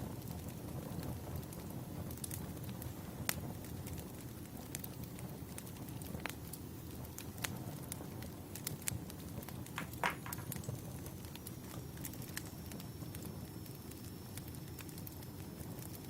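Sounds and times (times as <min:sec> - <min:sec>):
fire low rumble: 0:00.0 - 0:16.0
fire pops and snaps: 0:00.0 - 0:16.0.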